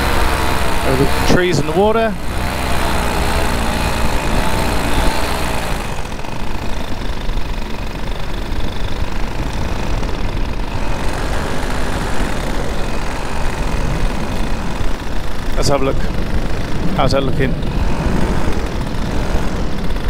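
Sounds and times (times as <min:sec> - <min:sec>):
paramotor engine running: 0:00.0 - 0:20.0.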